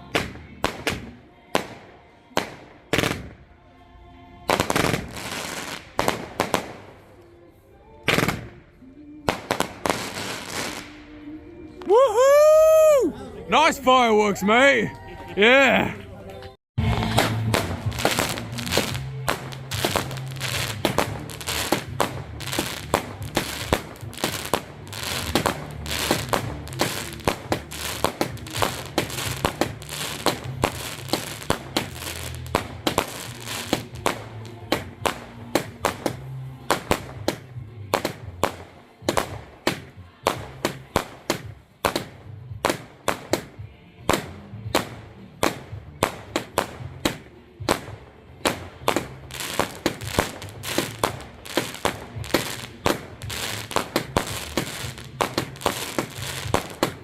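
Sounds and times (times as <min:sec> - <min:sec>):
fireworks bangs and crackles: 0:00.0 - 0:03.5, 0:04.5 - 0:07.0, 0:08.0 - 0:11.1, 0:16.8 - 0:57.0.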